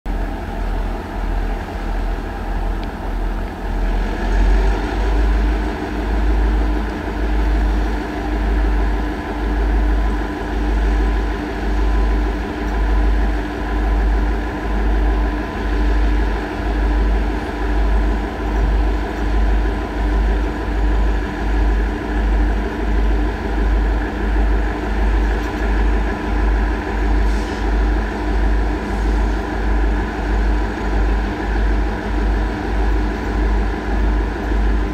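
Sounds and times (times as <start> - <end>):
diesel locomotives throbbing: 0.1 - 34.9.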